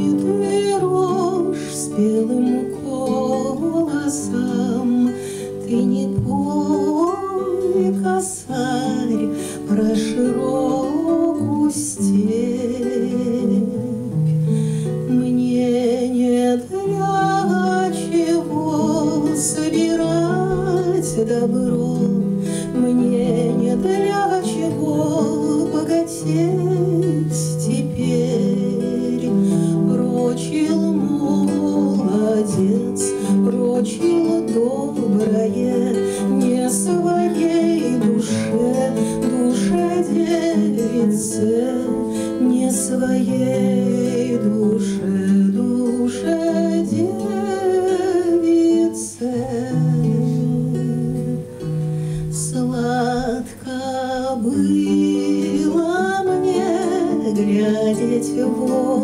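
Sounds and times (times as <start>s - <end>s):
classical guitar: 0.0s - 59.0s
woman singing: 0.0s - 59.0s.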